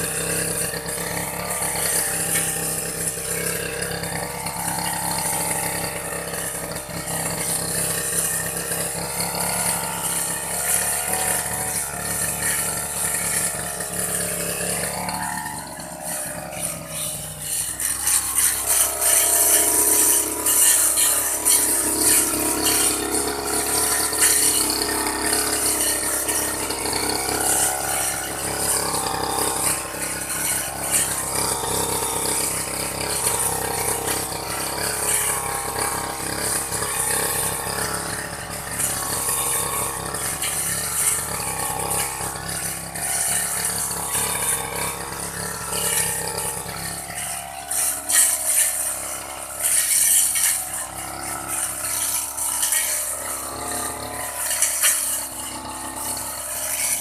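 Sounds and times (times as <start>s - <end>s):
grass-cutting machine rattling: 0.0s - 57.0s.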